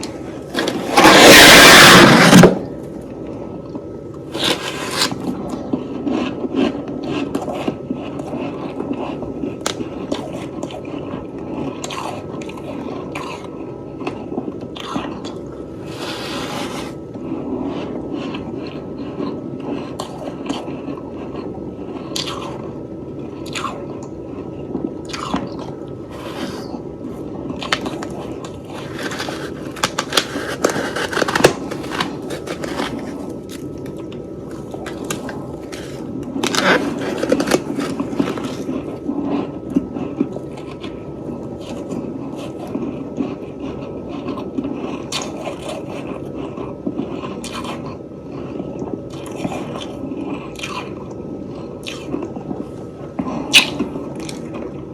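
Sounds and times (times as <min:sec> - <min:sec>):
chewing crunchy frost: 0:04.2 - 0:54.9.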